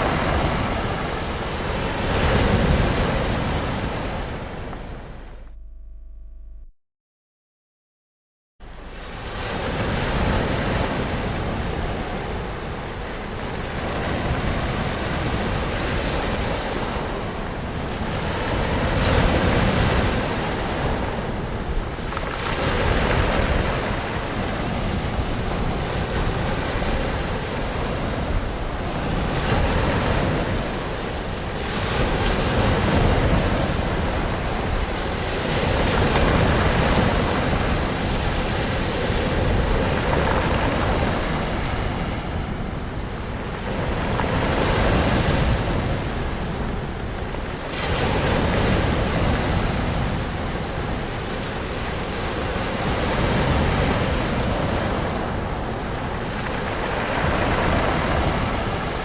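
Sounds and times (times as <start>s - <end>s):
ocean waves breaking on shore: 0.0s - 5.4s, 8.6s - 59.0s.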